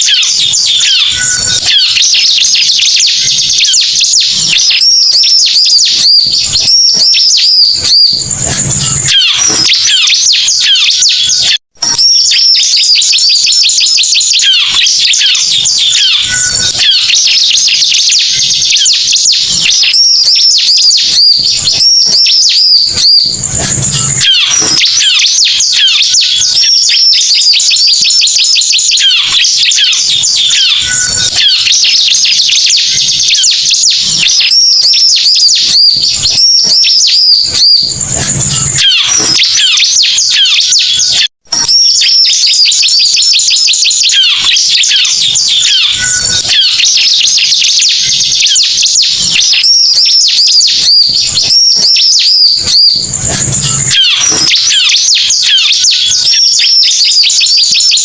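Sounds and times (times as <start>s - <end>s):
recorded bird song chirps and trills: 0.0s - 58.0s.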